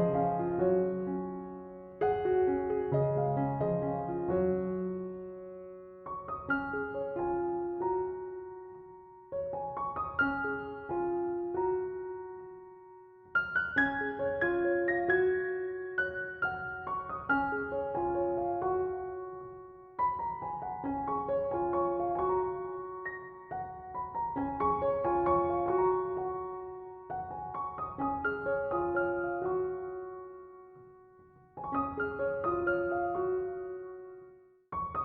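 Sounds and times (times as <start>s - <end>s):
slow solo piano music: 0.0s - 35.0s.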